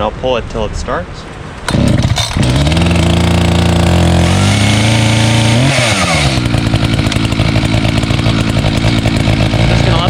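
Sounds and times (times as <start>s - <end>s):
chainsaw idling and revving: 1.7s - 10.0s.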